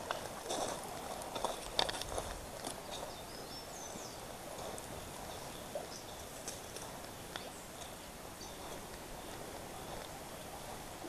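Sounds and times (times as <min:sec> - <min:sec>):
footsteps on dry ground and brush: 0:00.0 - 0:10.9
faint outdoor background: 0:00.0 - 0:11.0.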